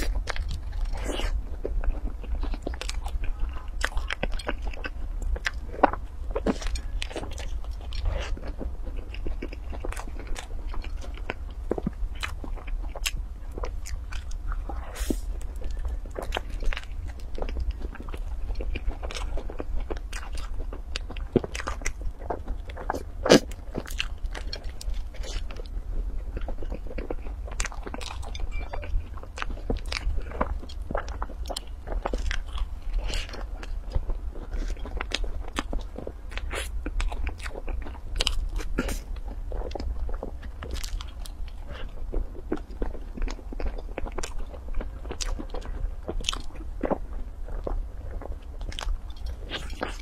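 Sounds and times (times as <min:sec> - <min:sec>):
crunchy pastry chewing: 0:00.0 - 0:50.0.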